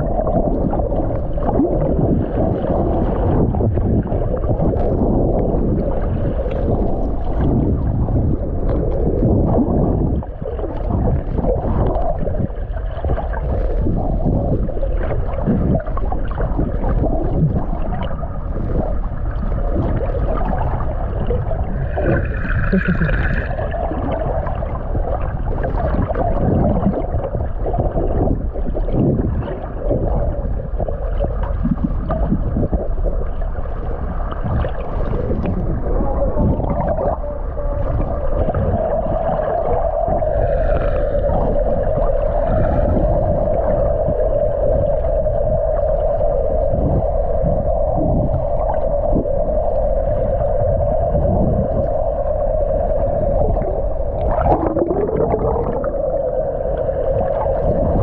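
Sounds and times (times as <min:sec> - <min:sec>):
steady droning tone: 0:00.0 - 0:58.0
underwater water rushing: 0:00.0 - 0:58.0.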